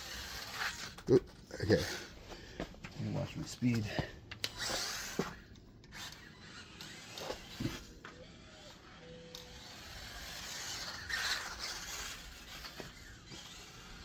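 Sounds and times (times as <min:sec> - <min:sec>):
electric motor whine: 0:00.0 - 0:02.2, 0:03.6 - 0:14.0.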